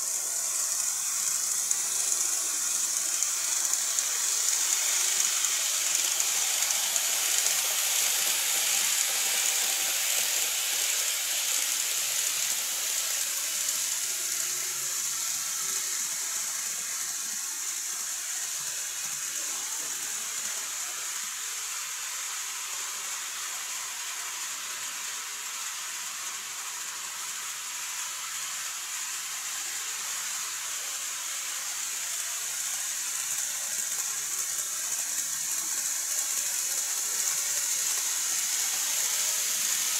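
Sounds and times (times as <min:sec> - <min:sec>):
model train hiss: 0:00.0 - 0:39.9.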